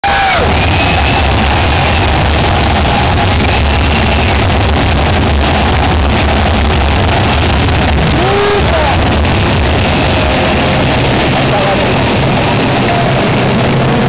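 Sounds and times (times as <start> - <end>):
crowd roaring and cheering: 0.0 - 14.0
music over public address: 0.0 - 14.0
people shouting and whooping: 0.0 - 14.0.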